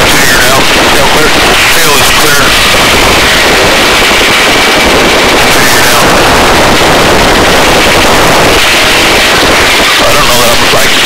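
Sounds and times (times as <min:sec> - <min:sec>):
helicopter rotor and turbine: 0:00.0 - 0:11.0
wind rushing: 0:00.0 - 0:11.0.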